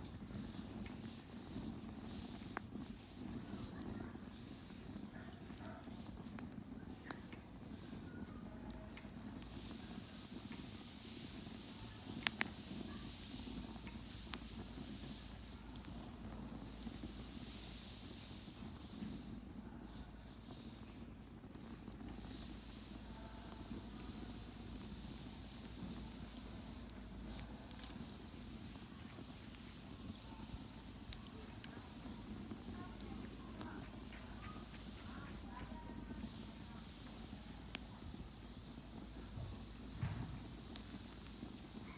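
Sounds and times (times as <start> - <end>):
campfire hissing and crackling: 0.0 - 41.9
fire popping: 0.0 - 41.9.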